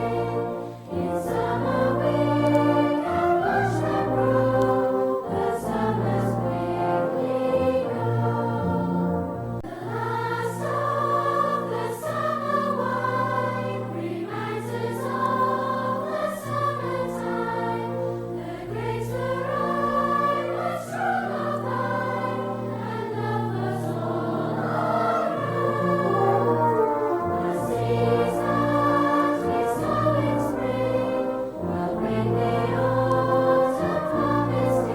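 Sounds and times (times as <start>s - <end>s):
choir singing held notes: 0.0s - 34.9s
sustained low accompaniment: 0.0s - 34.9s.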